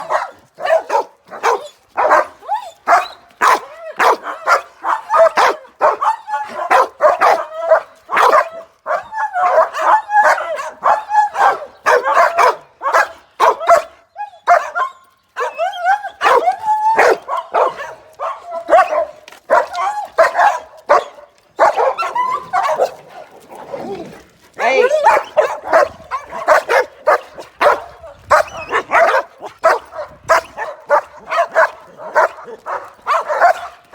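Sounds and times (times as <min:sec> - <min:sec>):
dogs barking and whining: 0:00.0 - 0:33.9.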